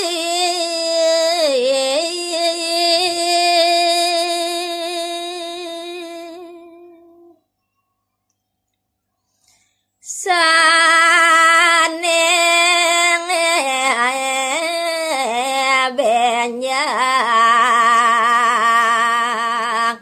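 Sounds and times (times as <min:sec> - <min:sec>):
woman singing unaccompanied: 0:00.0 - 0:07.4, 0:10.0 - 0:20.0.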